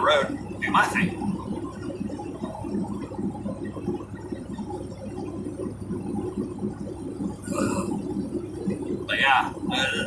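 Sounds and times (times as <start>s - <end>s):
truck engine and road drone: 0.0s - 10.0s.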